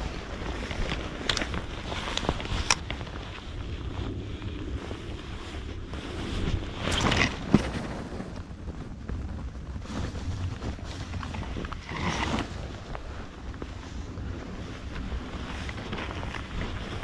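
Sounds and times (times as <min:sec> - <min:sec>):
dry grass rustling: 0:00.0 - 0:17.0
wind rumbling on microphone: 0:00.0 - 0:17.0.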